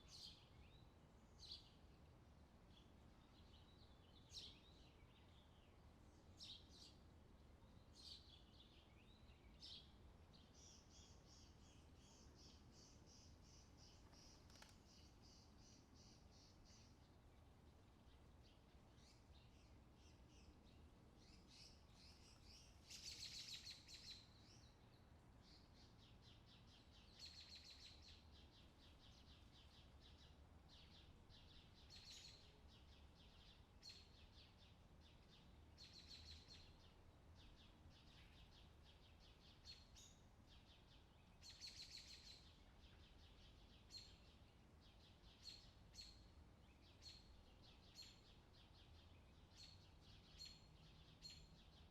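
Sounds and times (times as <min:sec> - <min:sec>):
faint birds singing: 0:00.0 - 0:51.9.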